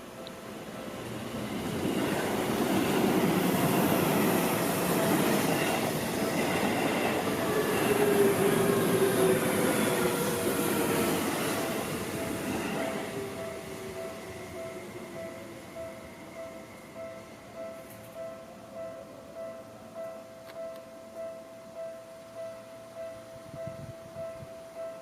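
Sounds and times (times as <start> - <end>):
electric train passing: 0.0 - 25.0
level crossing warning bell: 0.0 - 25.0.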